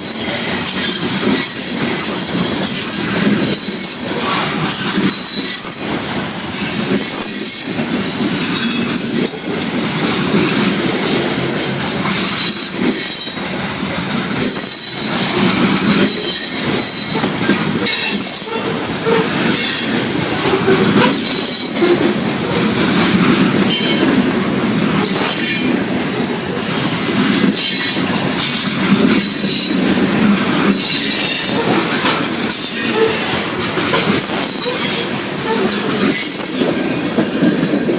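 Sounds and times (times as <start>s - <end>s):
train wheels clacking over rail joints: 0.0s - 37.9s.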